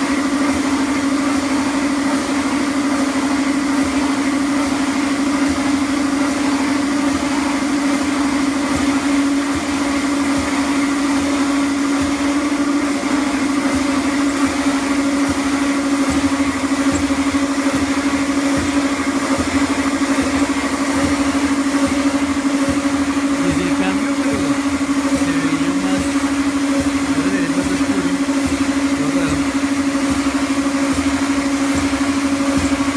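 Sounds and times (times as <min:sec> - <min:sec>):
cleaning machine motor hum: 0:00.0 - 0:32.9.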